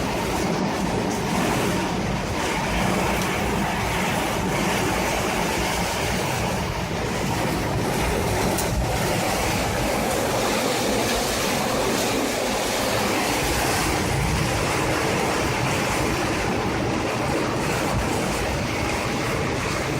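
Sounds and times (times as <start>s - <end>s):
strong wind blowing: 0.0s - 19.9s.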